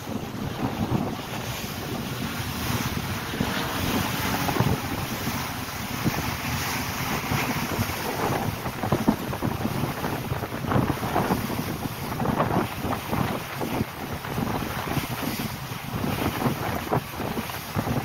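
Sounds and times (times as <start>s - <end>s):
water hissing in boat wake: 0.0s - 18.0s
wind buffeting the microphone: 0.0s - 18.0s.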